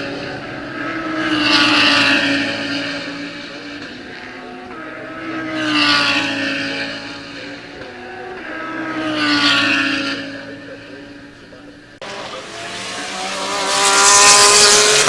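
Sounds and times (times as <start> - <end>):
engine running steadily: 0.0 - 15.0
race cars passing: 0.0 - 15.0.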